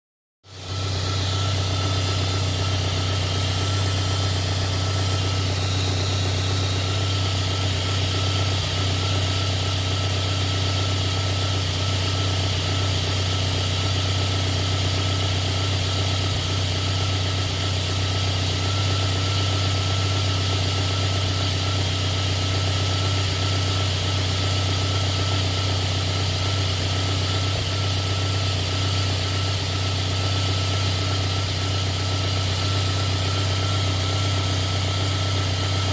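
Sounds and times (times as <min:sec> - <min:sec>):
car engine idling: 0:00.5 - 0:35.9.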